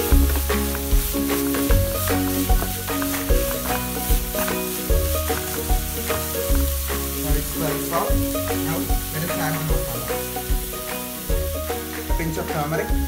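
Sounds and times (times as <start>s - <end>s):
wooden spatula scraping pan: 0.0s - 12.0s
background music: 0.0s - 13.0s
vegetables sizzling in pan: 0.0s - 13.0s.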